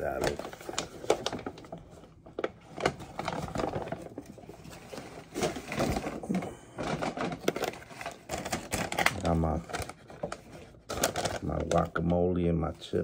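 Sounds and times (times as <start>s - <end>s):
paper bag rustling: 0.0s - 13.0s.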